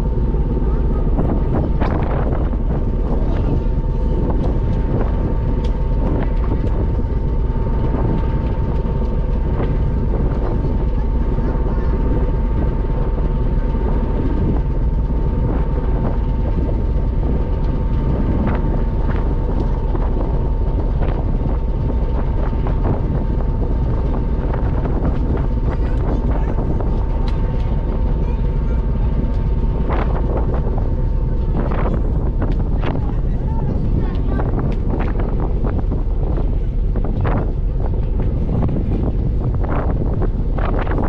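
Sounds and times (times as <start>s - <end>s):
ferry engines droning: 0.0s - 41.0s
thin steady whine: 0.0s - 41.0s
wind buffeting microphone: 0.0s - 41.0s.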